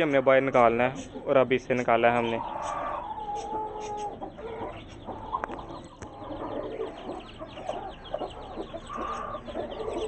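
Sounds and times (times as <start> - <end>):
chicks peeping: 0.0 - 10.0
hen clucking: 0.0 - 10.0.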